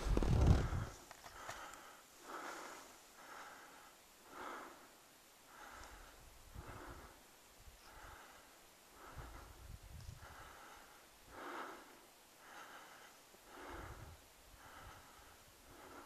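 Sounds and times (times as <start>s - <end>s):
person breathing hard: 0.4s - 16.0s.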